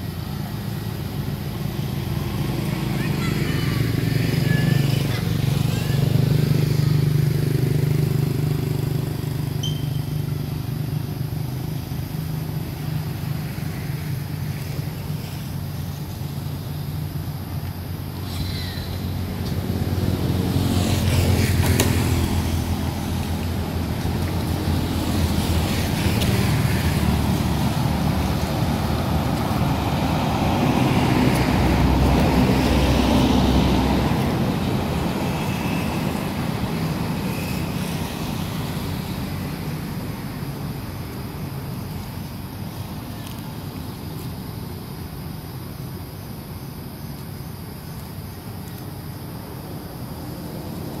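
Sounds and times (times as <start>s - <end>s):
vehicles passing: 0.0s - 51.0s.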